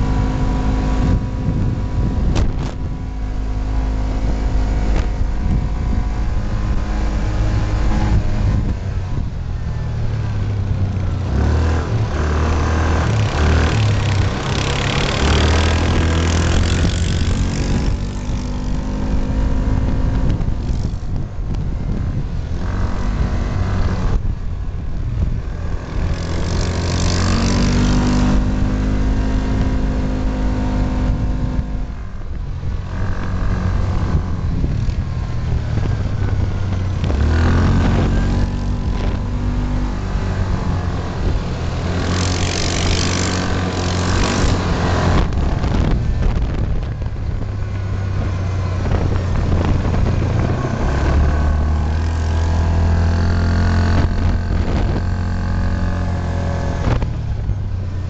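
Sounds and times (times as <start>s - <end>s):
off-road vehicle engine running: 0.0s - 58.0s
tyre and road noise: 0.0s - 58.0s.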